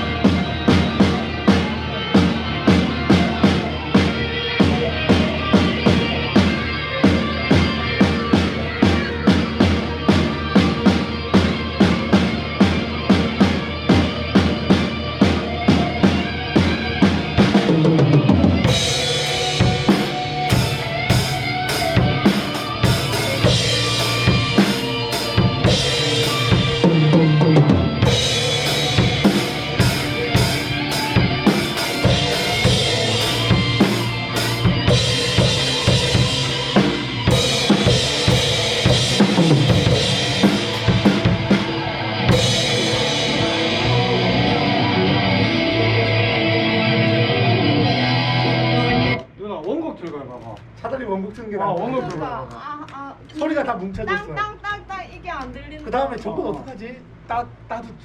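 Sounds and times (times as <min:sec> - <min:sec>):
bass line: 0:00.0 - 0:49.2
drum kit playing rock beat: 0:00.0 - 0:49.2.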